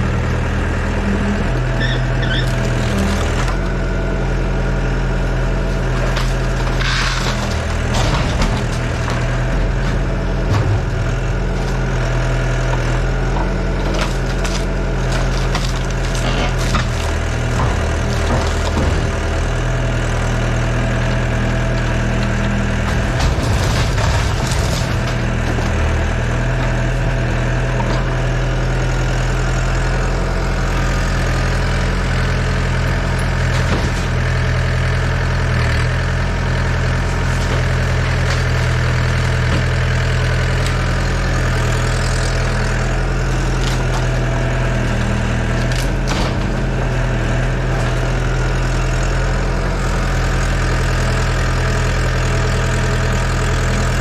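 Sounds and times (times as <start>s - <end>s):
excavator diesel engine running: 0.0s - 54.0s
timber cracking and crunching: 0.1s - 54.0s.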